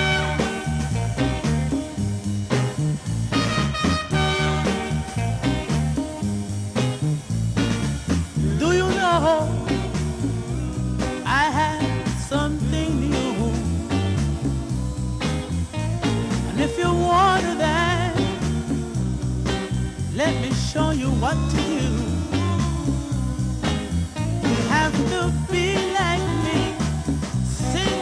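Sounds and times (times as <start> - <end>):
bass line: 0.0 - 28.0
soul music from small band: 0.0 - 28.0.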